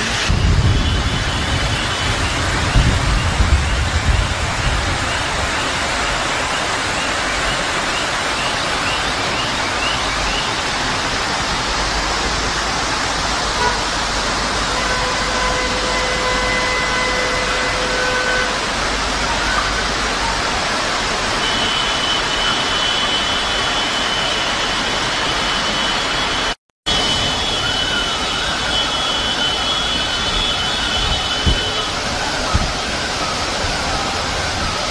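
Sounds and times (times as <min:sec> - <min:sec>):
floodwater pouring down street: 0:00.0 - 0:34.9
torrential rain: 0:00.0 - 0:34.9.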